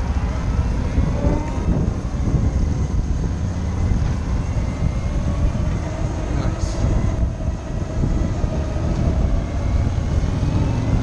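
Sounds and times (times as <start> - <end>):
wind rumbling over microphone: 0.0 - 11.0.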